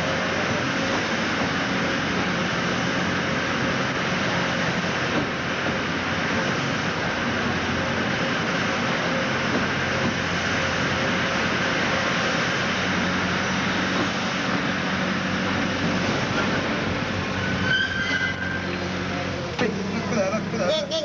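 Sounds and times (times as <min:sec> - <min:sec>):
miniature train rumbling: 0:00.0 - 0:21.0.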